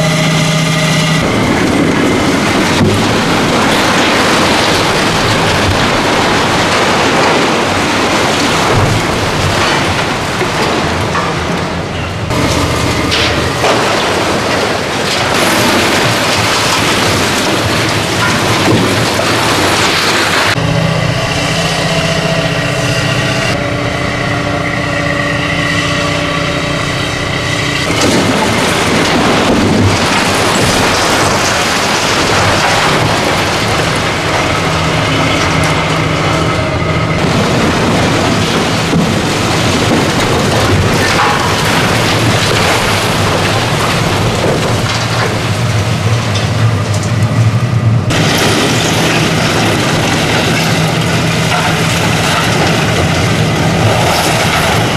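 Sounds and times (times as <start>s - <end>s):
excavator diesel engine running: 0.0s - 54.9s
concrete breaking and rubble falling: 1.3s - 20.6s, 27.8s - 47.1s, 48.1s - 54.9s.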